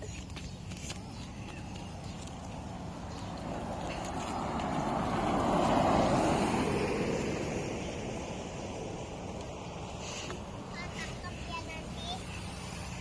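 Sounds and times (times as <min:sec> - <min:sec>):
vehicle passing by: 0:01.4 - 0:13.0.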